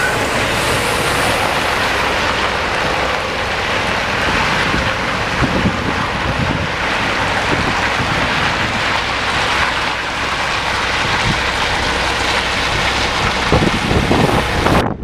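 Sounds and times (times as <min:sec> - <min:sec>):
low rumble: 0:00.0 - 0:15.0
wind on microphone: 0:00.0 - 0:15.0.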